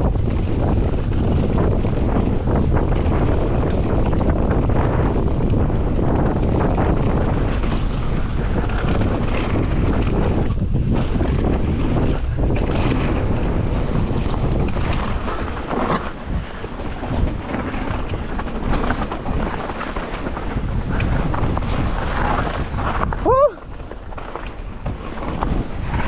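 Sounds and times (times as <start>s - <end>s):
tyre and trail rumble: 0.0s - 26.0s
wind buffeting microphone: 0.0s - 26.0s.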